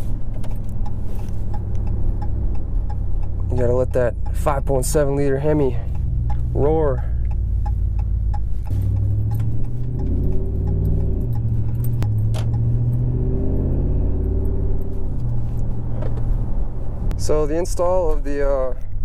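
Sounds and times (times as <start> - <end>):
engine exhaust accelerating: 0.0 - 19.0.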